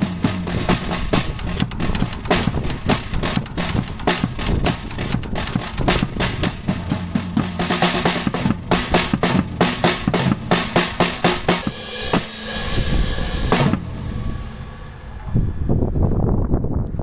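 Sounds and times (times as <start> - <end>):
drum kit solo: 0.0 - 15.5.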